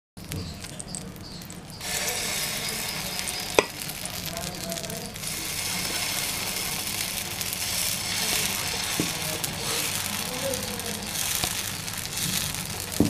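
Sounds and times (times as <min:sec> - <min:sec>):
batter sizzling on hot griddle: 0:00.2 - 0:13.0.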